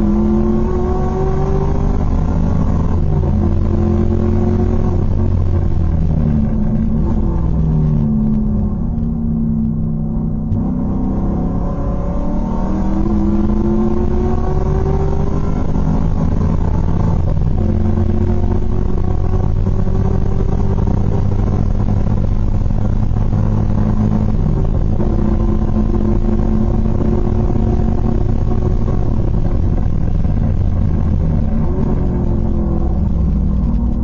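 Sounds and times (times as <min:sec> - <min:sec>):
race car engine at full throttle: 0:00.0 - 0:34.0.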